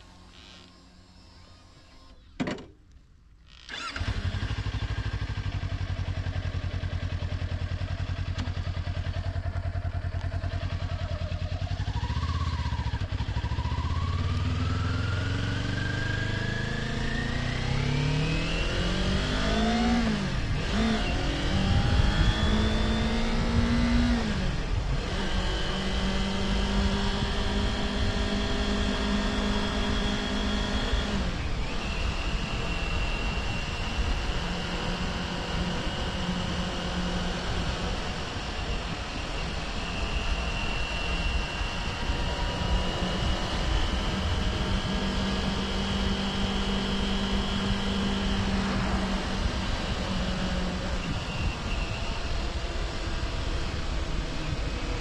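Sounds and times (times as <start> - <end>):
motorcycle engine revving: 3.7 - 55.0.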